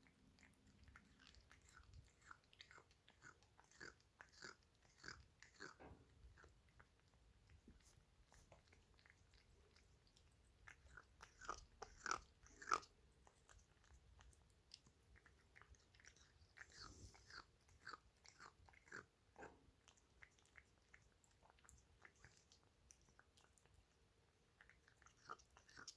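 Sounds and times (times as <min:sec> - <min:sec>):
pet crunching and chewing: 0:00.0 - 0:25.9.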